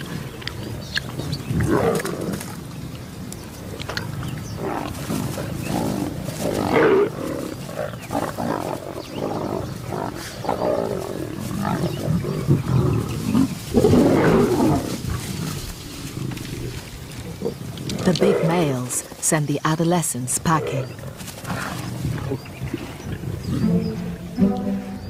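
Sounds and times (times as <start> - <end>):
lions growling and snarling: 0.0 - 19.2, 20.4 - 24.4.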